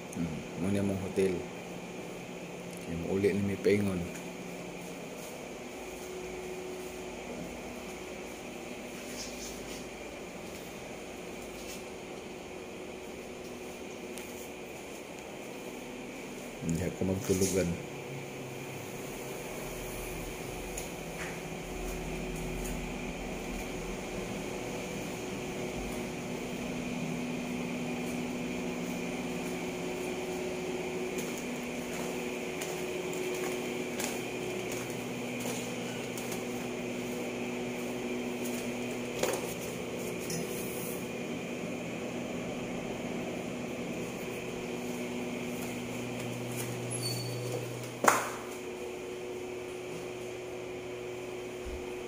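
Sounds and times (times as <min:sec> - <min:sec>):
machinery humming: 0:00.0 - 0:52.0.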